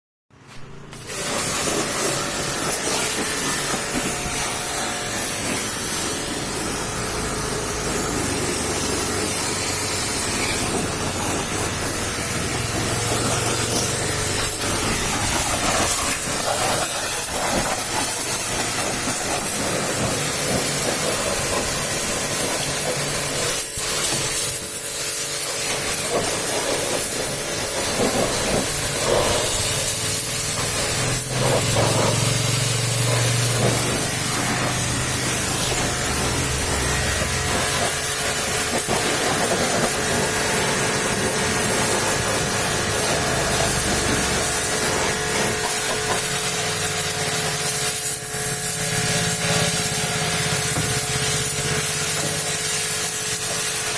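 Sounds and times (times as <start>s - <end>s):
pressure washer spraying water: 0.4s - 53.9s.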